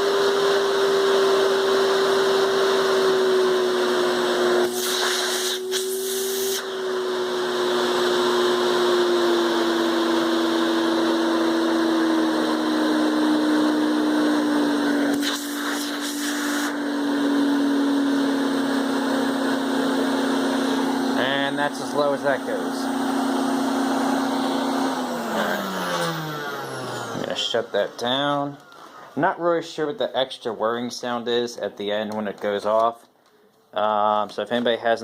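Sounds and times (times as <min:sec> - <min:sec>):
vacuum cleaner motor whine: 0:00.0 - 0:29.2.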